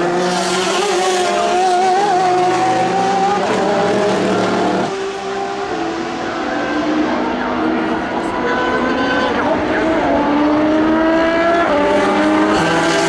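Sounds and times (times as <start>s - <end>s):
race car engine at full speed: 0.0s - 13.0s.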